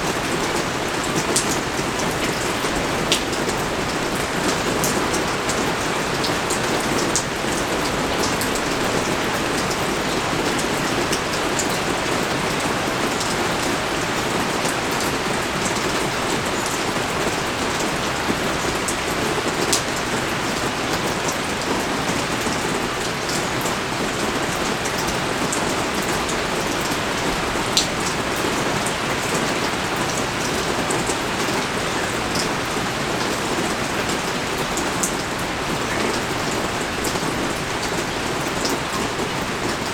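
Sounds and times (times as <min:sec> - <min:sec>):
pouring rain: 0:00.0 - 0:39.9.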